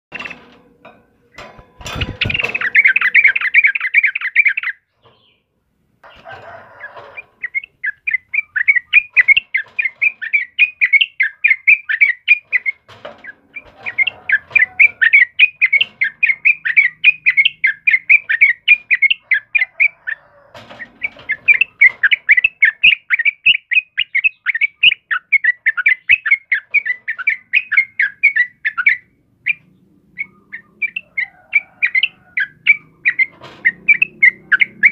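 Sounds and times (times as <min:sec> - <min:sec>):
bulbul singing rapid chirps: 0:01.3 - 0:05.4, 0:06.8 - 0:20.2, 0:20.8 - 0:34.9.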